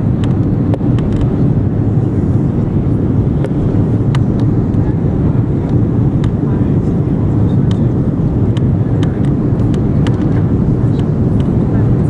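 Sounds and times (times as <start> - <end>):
airplane cabin roar: 0.0 - 12.0.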